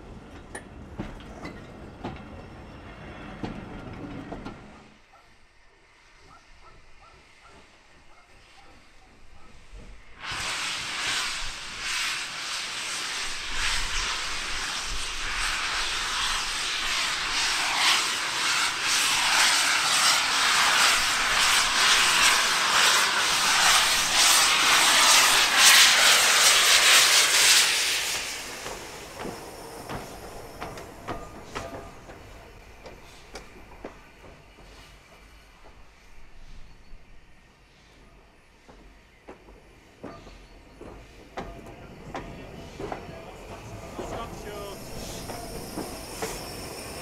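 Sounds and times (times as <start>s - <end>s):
steam locomotive hissing rush: 0.0s - 47.0s.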